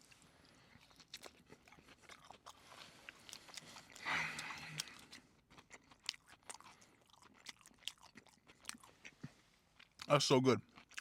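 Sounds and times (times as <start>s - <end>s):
chewing and crunching: 0.0s - 11.0s.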